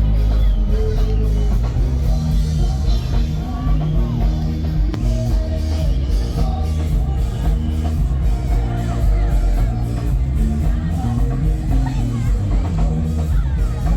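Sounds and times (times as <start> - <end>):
live band playing: 0.0 - 13.9
person singing: 0.0 - 13.9.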